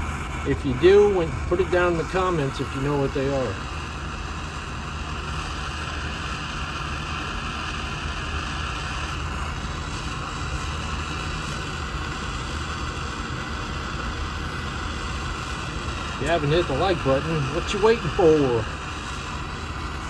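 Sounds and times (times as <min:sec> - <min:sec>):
furnace rushing with low hum: 0:00.0 - 0:20.0.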